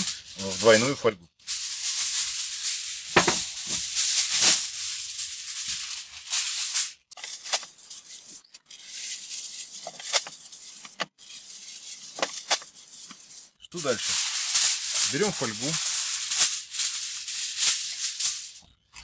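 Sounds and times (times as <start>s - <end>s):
foil pulled off roll: 0.0s - 13.2s, 13.8s - 18.4s
foil sheets crackling: 0.0s - 19.0s.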